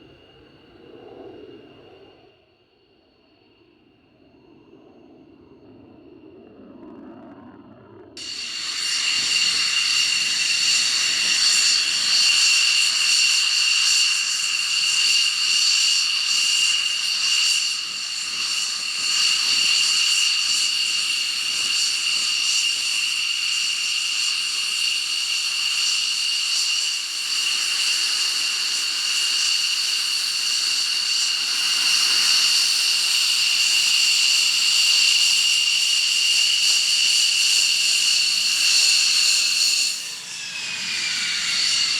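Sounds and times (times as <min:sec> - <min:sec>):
jet engine high-pitched whine: 0:00.0 - 0:41.9.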